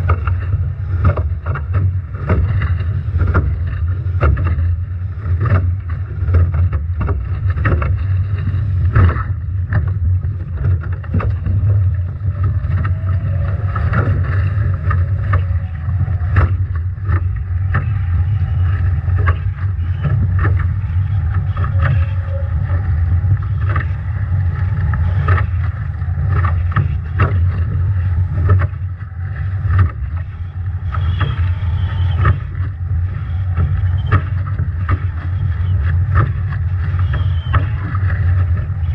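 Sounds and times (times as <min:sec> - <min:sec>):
water slapping against hull: 0:00.0 - 0:38.9
wind rumble on microphone: 0:00.0 - 0:38.9.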